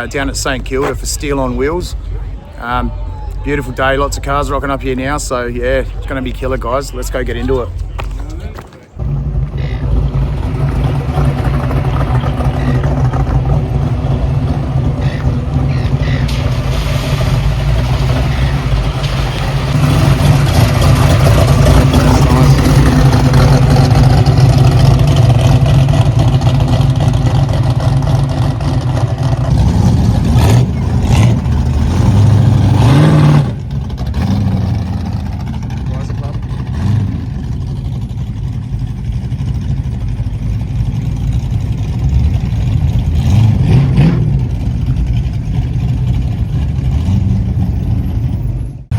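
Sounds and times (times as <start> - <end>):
car engine droning and revving: 9.0 - 48.9.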